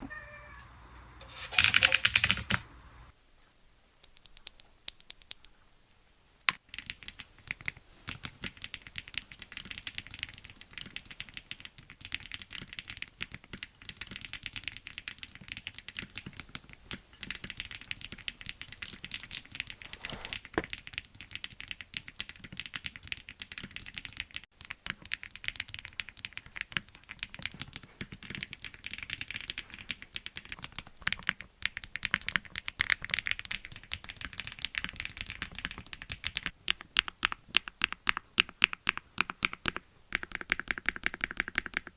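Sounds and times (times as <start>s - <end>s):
mechanical keyboard typing: 1.2s - 2.7s, 6.6s - 41.9s.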